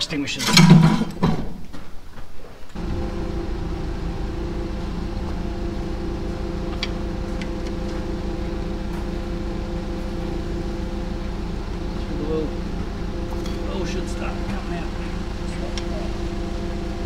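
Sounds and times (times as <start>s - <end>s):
machine engine running: 2.8s - 17.0s.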